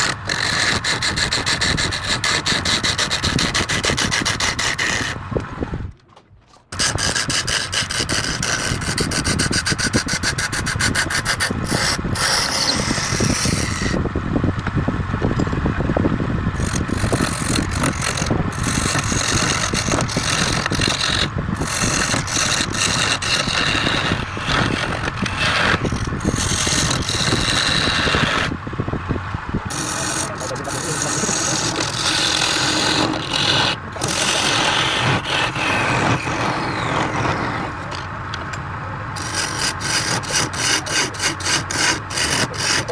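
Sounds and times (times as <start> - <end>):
wood lathe tool scraping: 0.0 - 5.2, 6.7 - 14.0, 16.5 - 28.6, 29.6 - 38.1, 39.2 - 42.9.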